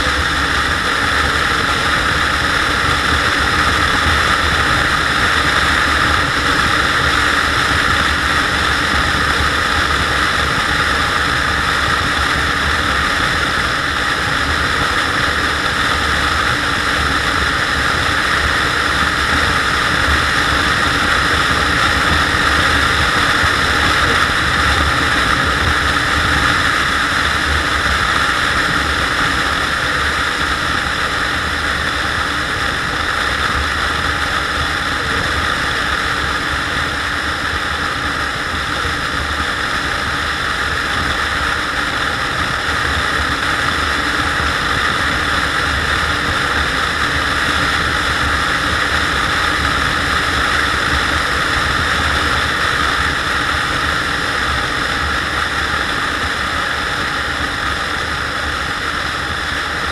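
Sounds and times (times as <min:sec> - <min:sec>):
scooter engine drone: 0:00.0 - 0:59.9
wind and road noise: 0:00.0 - 0:59.9.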